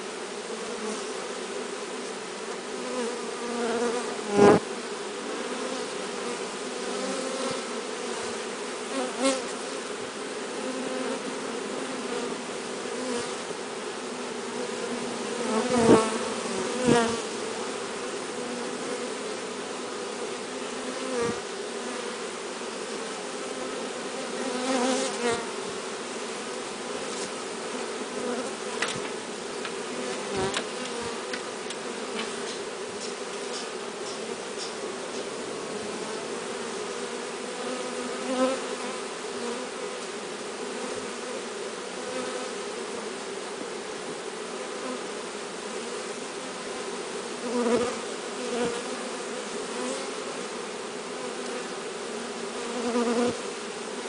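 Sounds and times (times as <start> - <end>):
bee swarm buzzing: 0.0 - 54.0.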